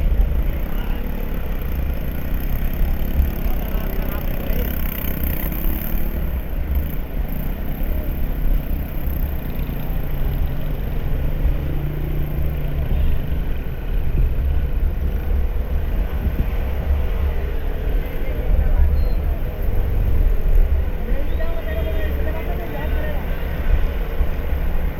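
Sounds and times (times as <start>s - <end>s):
vehicle engine low rumble: 0.0s - 24.9s.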